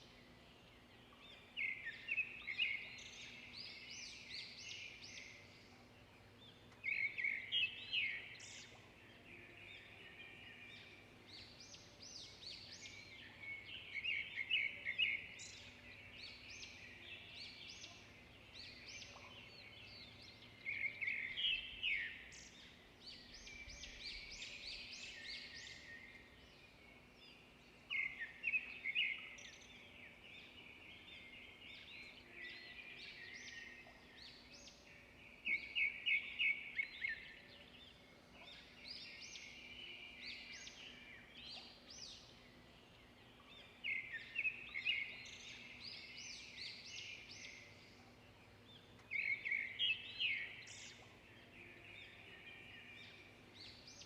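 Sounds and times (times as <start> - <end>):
quiet bird twittering: 0.0 - 54.0
songbird song phrase: 0.0 - 54.0.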